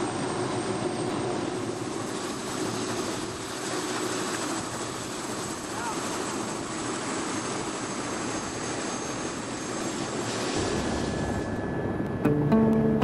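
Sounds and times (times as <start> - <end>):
helicopter engine and rotor: 0.0 - 12.4.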